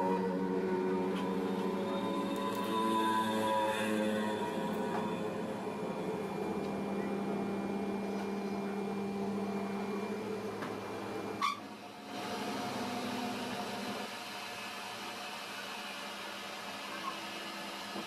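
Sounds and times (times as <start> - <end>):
electric machine hum: 0.0 - 18.0.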